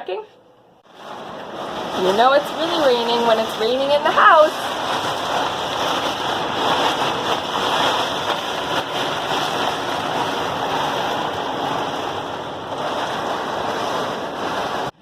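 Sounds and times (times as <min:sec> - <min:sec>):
wind: 0:00.6 - 0:15.0
heavy rain pouring: 0:00.8 - 0:15.0.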